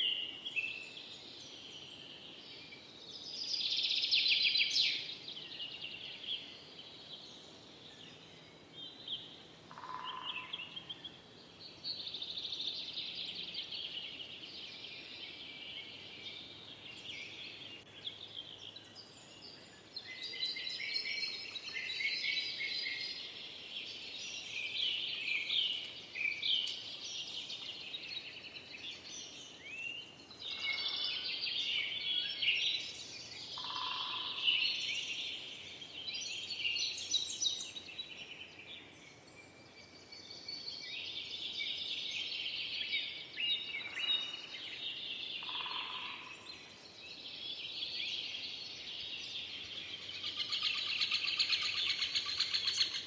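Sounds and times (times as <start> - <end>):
songbirds chorus: 0.0 - 53.0.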